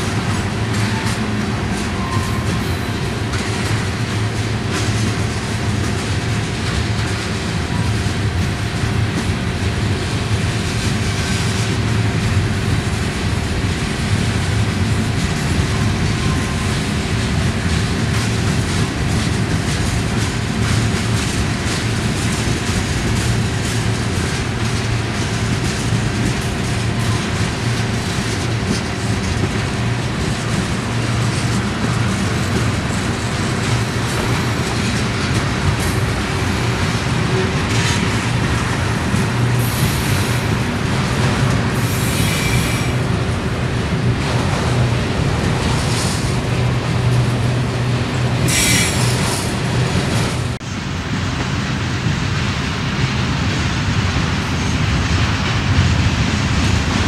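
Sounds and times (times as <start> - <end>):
wheels clicking over rail joints: 0.0 - 50.6
train wheels on rails: 0.0 - 57.0.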